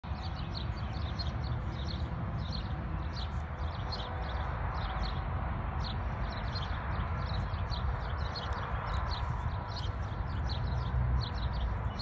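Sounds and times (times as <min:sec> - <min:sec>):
steady low rumble: 0:00.1 - 0:12.0.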